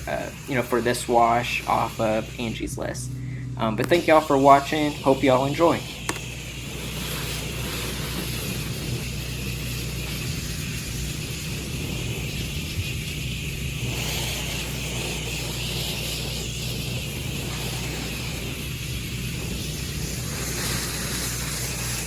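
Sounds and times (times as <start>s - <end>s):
pressure washer engine hum: 0.0s - 22.0s
water spraying through nozzle: 0.0s - 22.0s.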